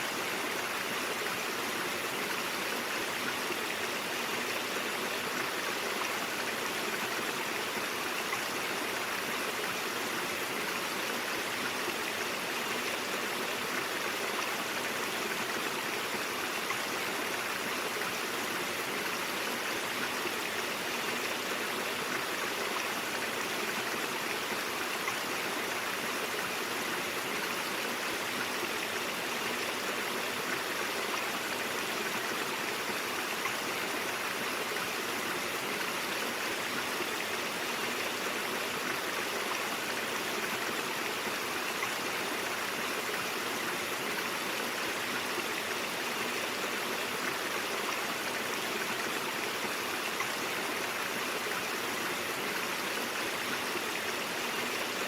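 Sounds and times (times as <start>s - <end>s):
brook water flowing: 0.0s - 55.0s.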